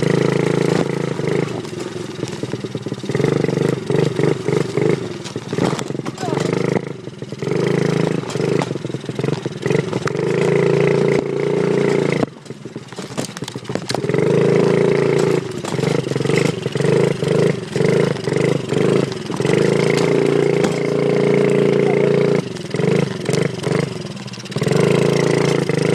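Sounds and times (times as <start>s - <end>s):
dirt bike engine revving: 0.0s - 25.9s.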